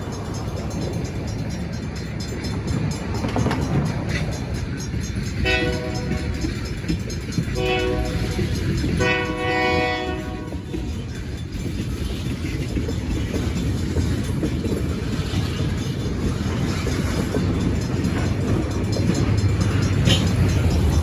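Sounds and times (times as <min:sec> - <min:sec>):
freight train wheels rumbling: 0:00.0 - 0:21.0
wheel clicks on rail: 0:00.0 - 0:21.0.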